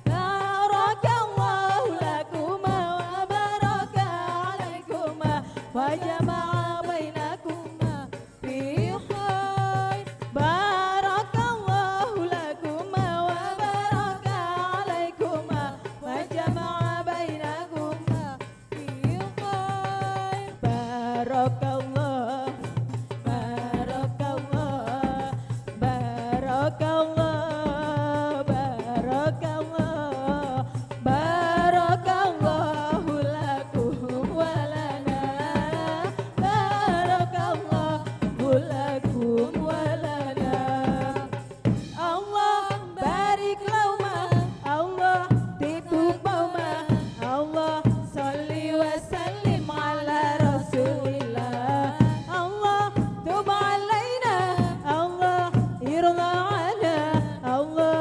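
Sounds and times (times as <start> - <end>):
steady drum beat: 0.0 - 12.0, 12.8 - 58.0.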